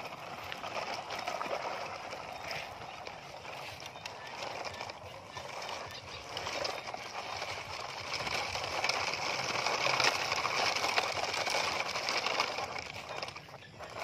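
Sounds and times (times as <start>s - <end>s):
toy truck wheels crunching gravel: 0.0s - 14.0s.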